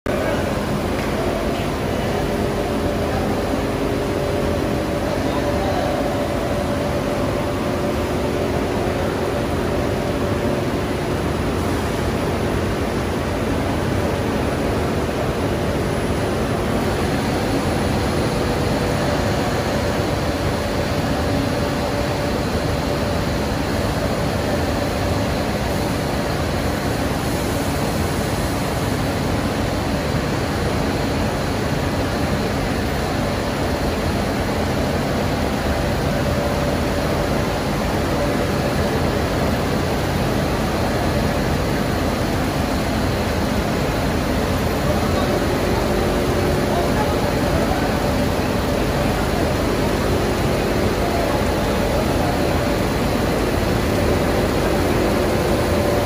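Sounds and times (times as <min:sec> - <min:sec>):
faint constant whine: 0:00.1 - 0:56.0
machinery hum: 0:00.1 - 0:56.0.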